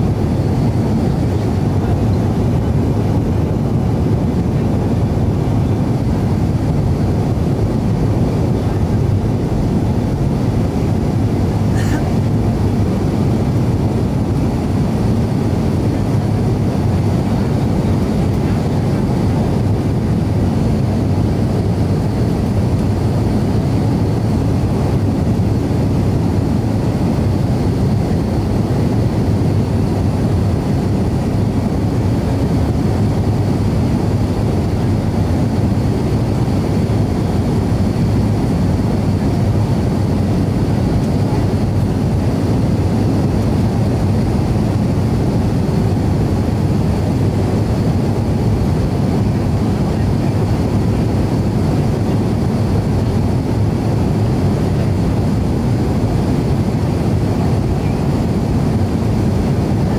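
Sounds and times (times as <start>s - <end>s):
deep jet engine rumble: 0.0s - 59.9s.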